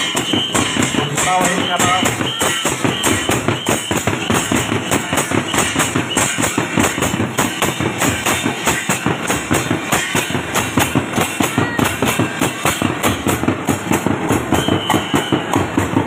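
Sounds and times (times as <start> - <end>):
band drums beating fast rhythm: 0.0 - 16.0.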